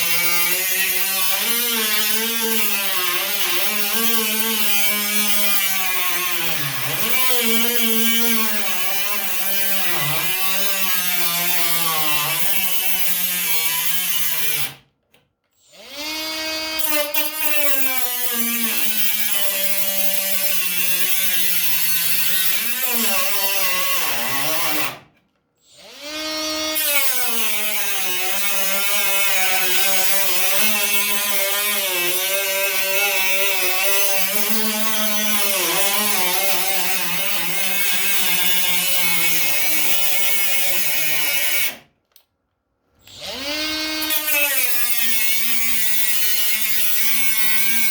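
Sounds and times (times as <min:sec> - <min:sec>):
cut-off tool whining into metal: 0:00.0 - 0:14.8, 0:15.7 - 0:25.0, 0:25.7 - 0:41.8, 0:43.0 - 0:47.9.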